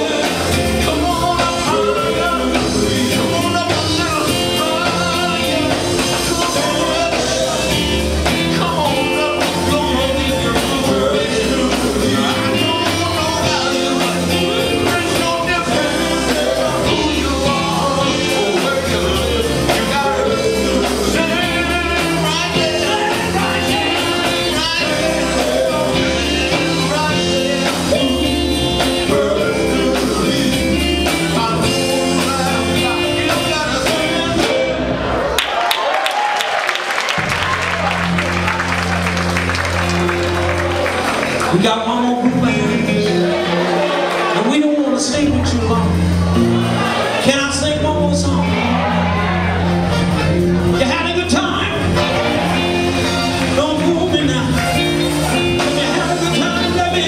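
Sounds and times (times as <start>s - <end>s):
men singing gospel: 0.0s - 35.1s, 39.6s - 57.0s
band playing steady beat: 0.0s - 57.0s.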